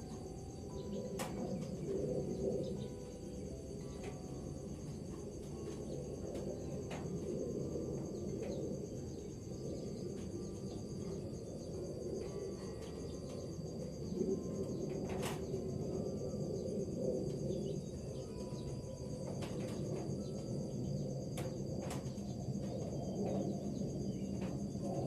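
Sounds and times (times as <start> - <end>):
crickets trilling: 0.0 - 25.0
low steady rush: 0.0 - 25.0.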